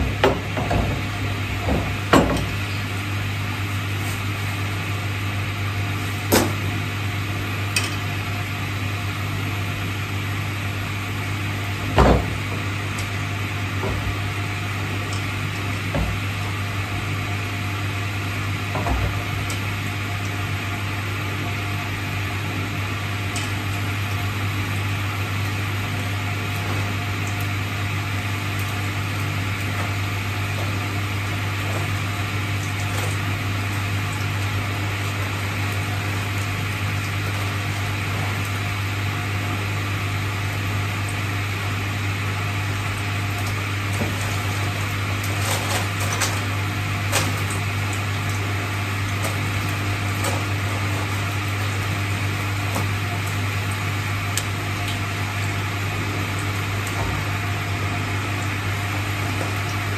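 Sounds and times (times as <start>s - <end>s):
low electric hum: 0.0s - 59.9s.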